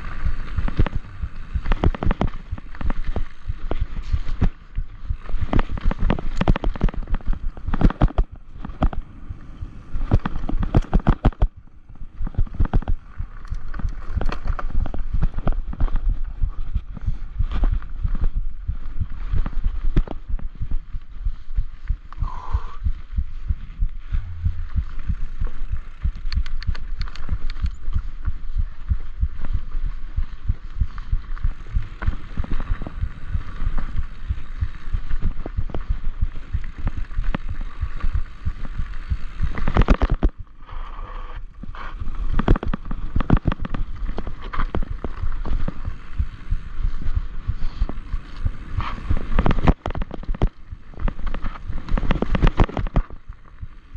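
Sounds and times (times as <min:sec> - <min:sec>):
mountain bike rattling over rocks: 0:00.0 - 0:21.9, 0:24.6 - 0:40.8, 0:41.4 - 0:53.9.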